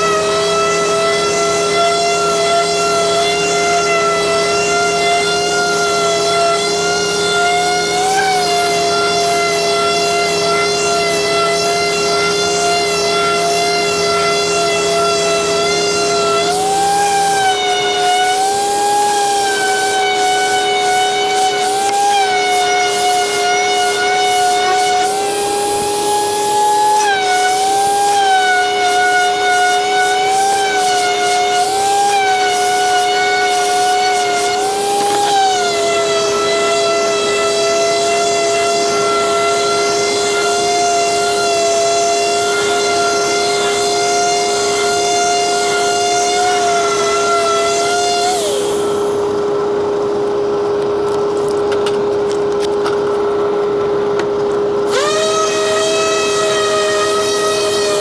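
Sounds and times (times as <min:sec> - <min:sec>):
orbital sander whining: 0:00.0 - 0:58.0
steady hum: 0:00.0 - 0:58.0.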